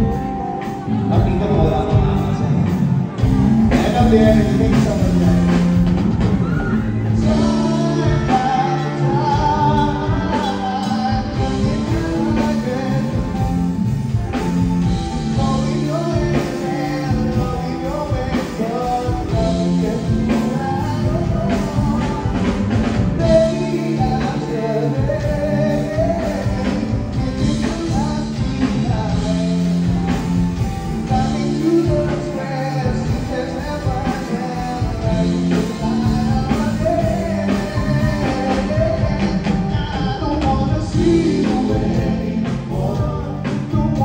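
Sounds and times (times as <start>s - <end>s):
live rock band playing: 0.0s - 44.0s
person singing: 0.0s - 44.0s.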